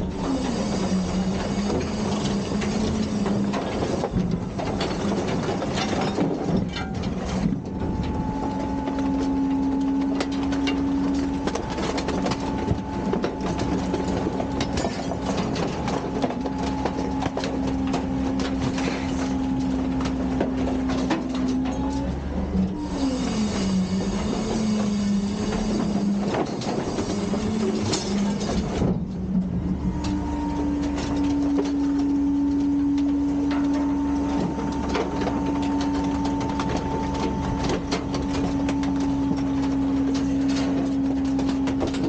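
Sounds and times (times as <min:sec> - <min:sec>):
garbage truck diesel engine running: 0:00.0 - 0:42.0
machinery and bins clattering: 0:00.0 - 0:42.0.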